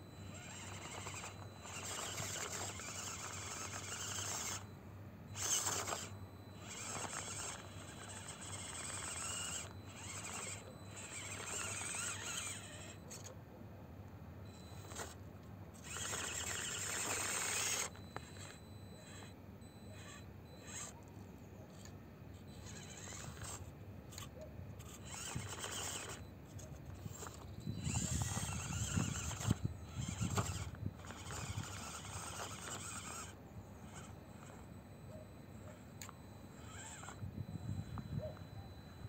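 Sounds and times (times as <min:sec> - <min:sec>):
electric motor and gearbox whine: 0:00.0 - 0:39.0.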